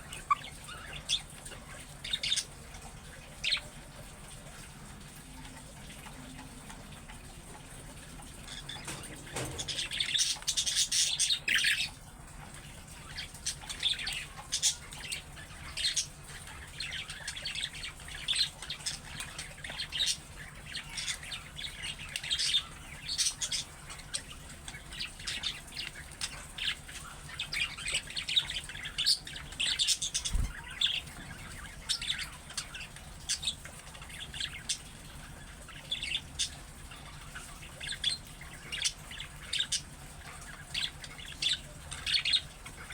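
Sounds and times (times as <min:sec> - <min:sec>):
budgerigars chirping: 0:00.0 - 0:03.7, 0:08.4 - 0:42.9.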